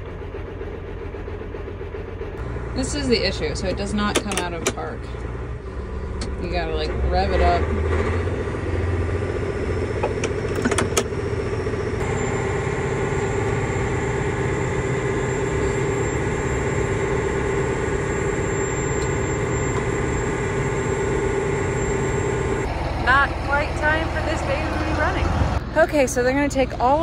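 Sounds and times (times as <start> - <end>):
steady whine: 0.0 - 27.0
tractor diesel engine revving: 0.0 - 27.0.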